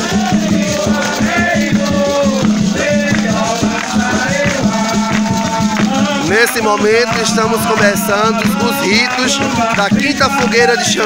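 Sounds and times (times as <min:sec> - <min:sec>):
hand drums beating: 0:00.0 - 0:11.0
shaken rattles: 0:00.0 - 0:11.0
voices chanting: 0:00.0 - 0:11.0.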